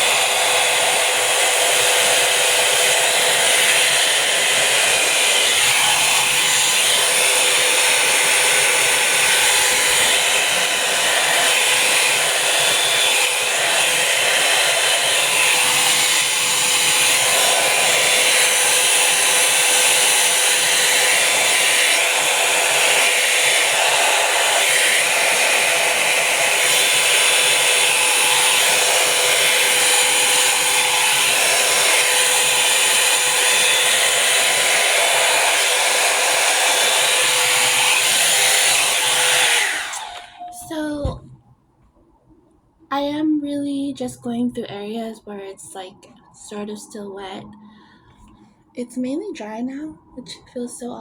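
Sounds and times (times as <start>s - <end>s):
hot-air brush dryer blowing: 0.0s - 40.9s.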